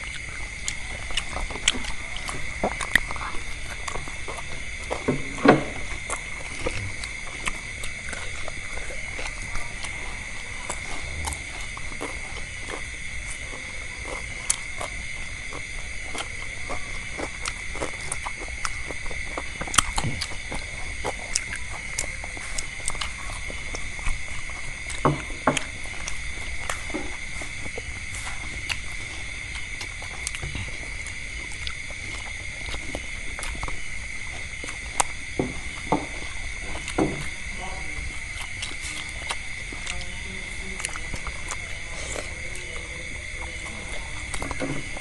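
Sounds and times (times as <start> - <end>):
chewing food: 0.0 - 45.0
high-pitched background whine: 0.0 - 45.0.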